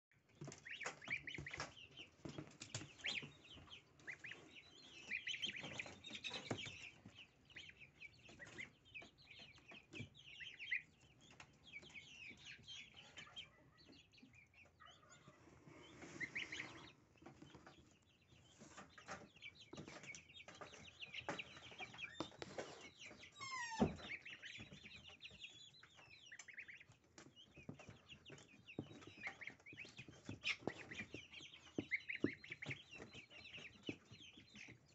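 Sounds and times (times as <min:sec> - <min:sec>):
goslings peeping: 0:00.2 - 0:34.9.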